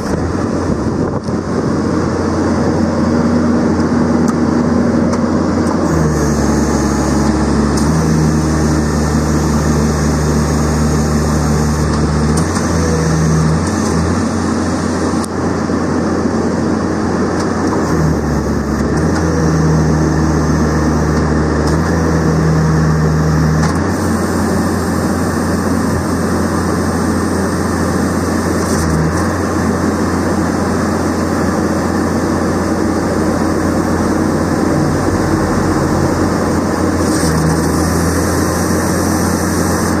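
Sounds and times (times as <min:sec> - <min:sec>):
loader engine and hydraulic drone: 0:00.0 - 0:40.0.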